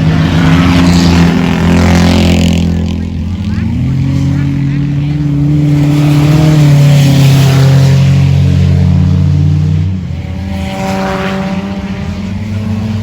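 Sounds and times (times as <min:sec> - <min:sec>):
race car engine drone: 0:00.0 - 0:13.0
race car passing by: 0:00.0 - 0:13.0.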